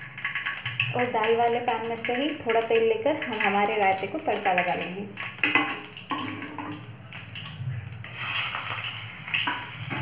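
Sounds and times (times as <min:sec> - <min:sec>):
seeds sizzling in oil: 0:00.0 - 0:10.0.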